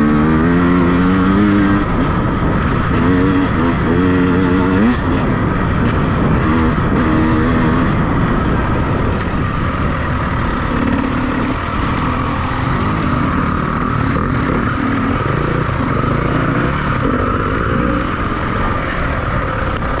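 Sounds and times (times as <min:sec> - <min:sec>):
off-road vehicle engine: 0:00.0 - 0:20.0
steady rushing noise: 0:00.0 - 0:20.0.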